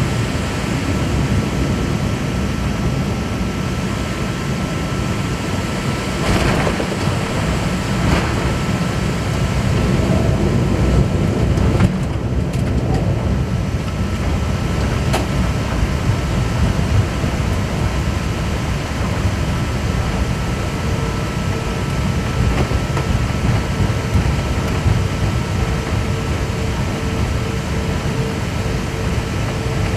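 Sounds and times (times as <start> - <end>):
jet engine rumble: 0.0 - 29.9.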